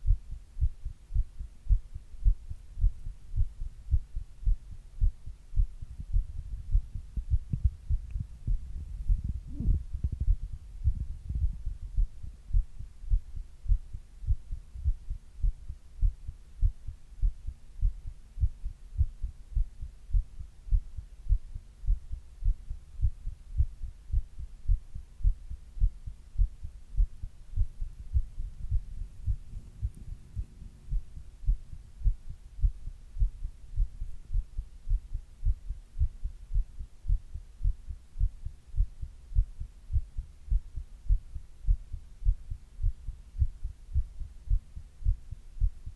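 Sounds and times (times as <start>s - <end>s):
faint hum: 0.0s - 45.9s
heartbeat thumps: 0.0s - 45.9s.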